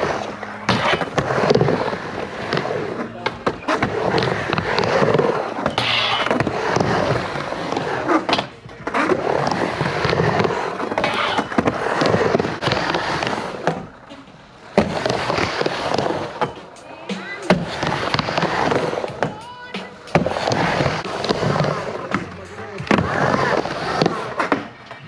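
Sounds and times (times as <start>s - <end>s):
skateboard clack: 0.0s - 25.0s
skateboard wheels rumbling on ramp: 0.0s - 25.0s.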